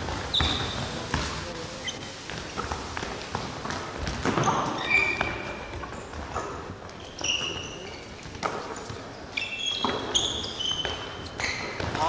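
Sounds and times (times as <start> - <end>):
sneakers squealing on gym floor: 0.0 - 2.4, 4.1 - 12.0.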